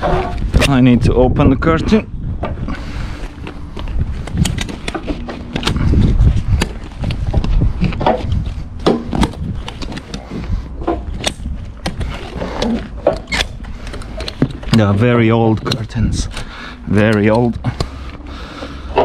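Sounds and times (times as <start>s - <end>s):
wind rumbling on microphone: 0.0s - 16.8s
sharp clicks and knocks: 2.4s - 19.0s.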